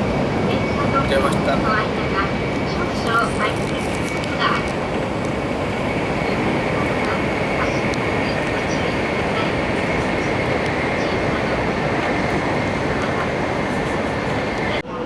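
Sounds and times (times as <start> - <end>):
train cabin running noise: 0.0 - 15.0.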